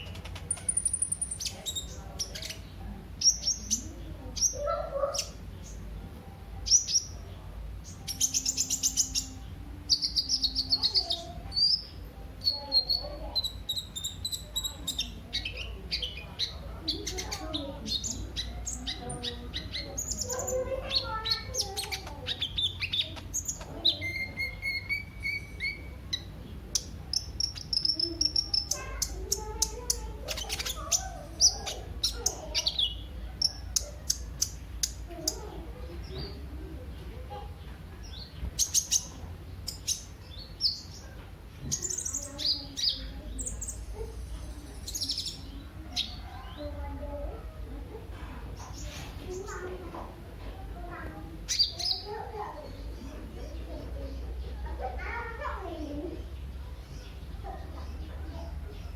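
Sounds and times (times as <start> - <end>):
bird singing chirps and trills: 0.0 - 58.9.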